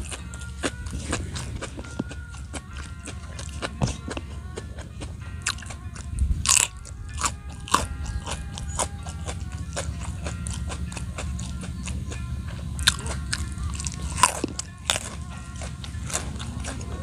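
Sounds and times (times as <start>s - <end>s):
crunching and chewing beans: 0.0s - 17.0s.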